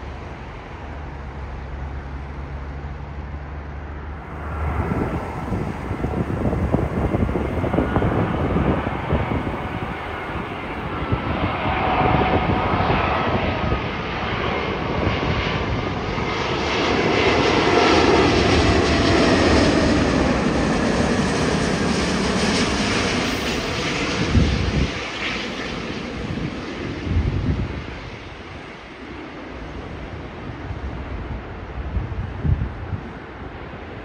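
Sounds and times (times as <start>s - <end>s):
jet engines roaring: 0.0s - 31.8s.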